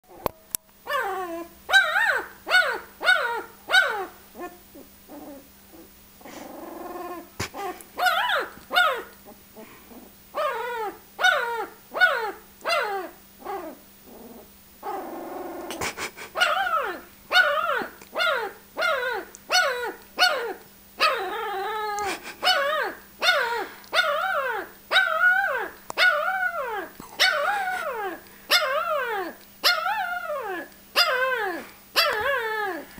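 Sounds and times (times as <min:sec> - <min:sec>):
puppy crying: 0:00.9 - 0:05.9, 0:06.9 - 0:15.8, 0:16.4 - 0:32.9.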